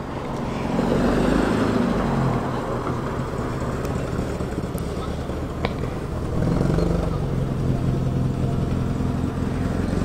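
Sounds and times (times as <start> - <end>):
outdoor noise: 0.0 - 10.0.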